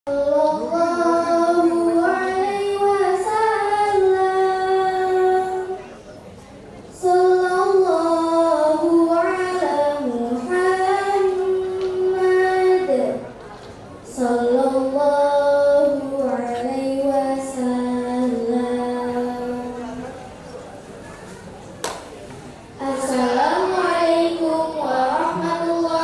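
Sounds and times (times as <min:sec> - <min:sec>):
girl singing into a microphone: 0:00.1 - 0:06.0, 0:06.9 - 0:13.4, 0:14.0 - 0:20.2, 0:22.7 - 0:26.0.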